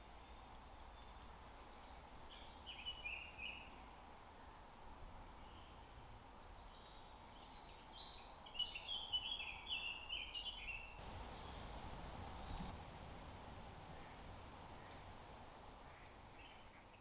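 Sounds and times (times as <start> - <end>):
faint woodland background: 0.0 - 17.0.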